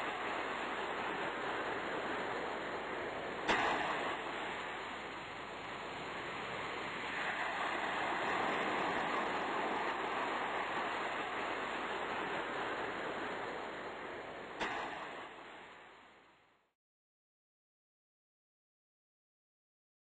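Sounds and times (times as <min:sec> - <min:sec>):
sea waves washing: 0:00.0 - 0:16.5.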